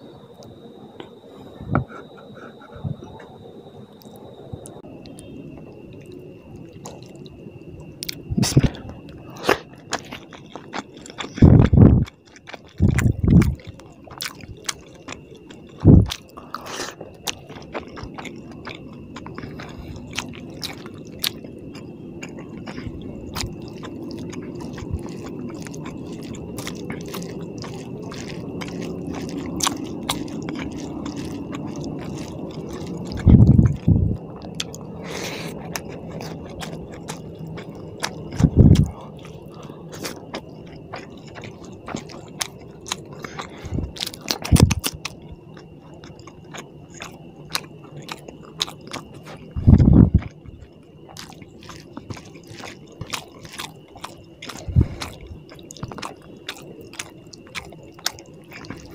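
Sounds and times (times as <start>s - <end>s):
faint high whine: 0.0s - 58.9s
mouth chewing: 4.0s - 58.9s.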